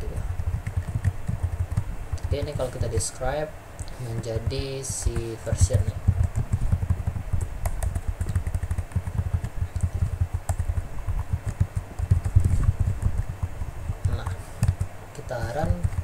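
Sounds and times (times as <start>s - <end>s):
fast typing on keyboard: 0.0s - 3.3s, 4.0s - 16.0s.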